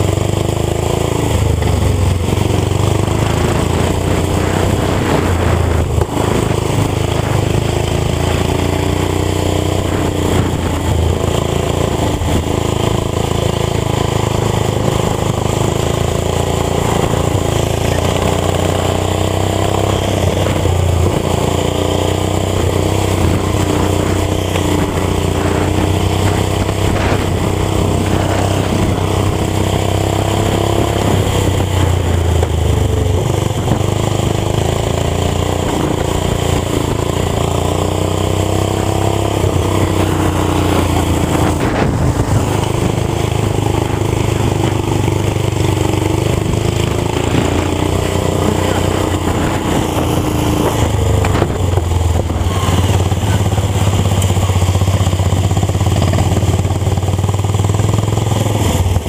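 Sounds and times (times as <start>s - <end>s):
lawn tractor engine revving: 0.0s - 59.0s.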